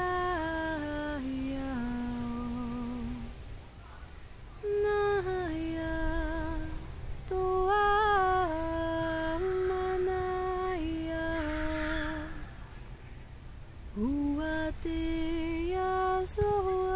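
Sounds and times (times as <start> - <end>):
woman singing wordless held notes: 0.0 - 3.6, 4.6 - 12.8, 13.9 - 16.9.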